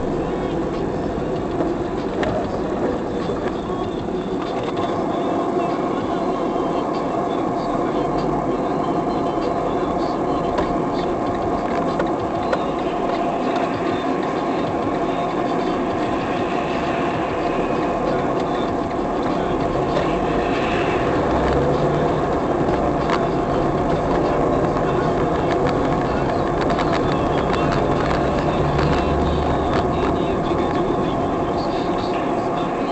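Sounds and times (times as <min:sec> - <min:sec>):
moving vehicle running noise: 0:00.0 - 0:32.9.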